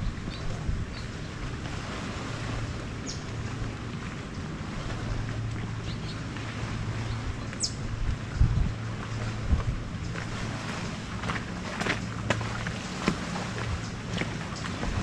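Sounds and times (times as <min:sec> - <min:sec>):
steady low drone: 0:00.0 - 0:15.0
wind on microphone: 0:00.0 - 0:15.0.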